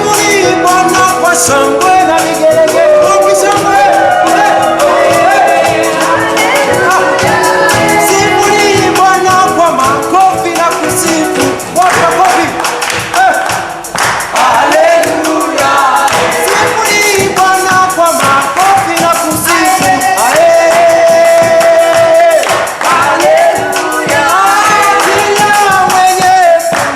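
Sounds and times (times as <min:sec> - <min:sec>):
voices singing over a band: 0:00.0 - 0:13.6, 0:14.2 - 0:26.9
tambourine jingling: 0:00.0 - 0:26.9.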